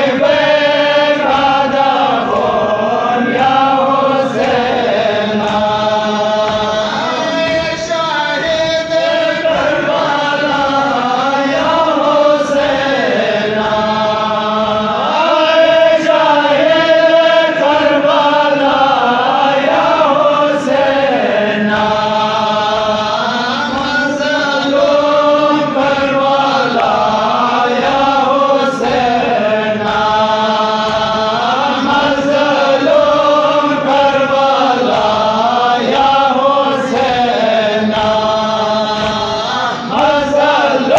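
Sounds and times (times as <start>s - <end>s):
men chanting in unison: 0.0s - 40.9s
rhythmic chest-beating thuds: 0.0s - 40.9s.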